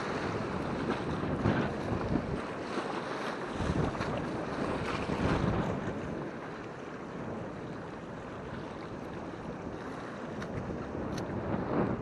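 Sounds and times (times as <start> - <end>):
sea waves over rocks: 0.0 - 12.0
wind noise on microphone: 0.0 - 12.0.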